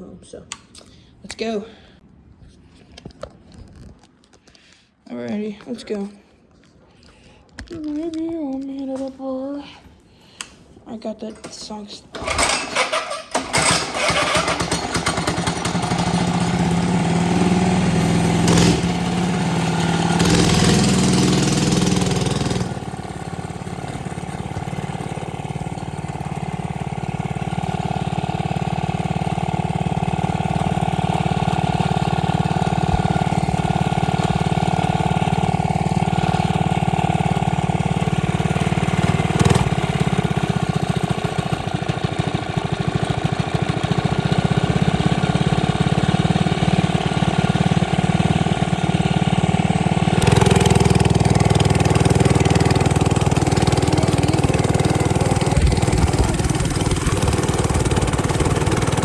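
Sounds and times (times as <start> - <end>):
small engine starting and running: 11.4 - 59.0.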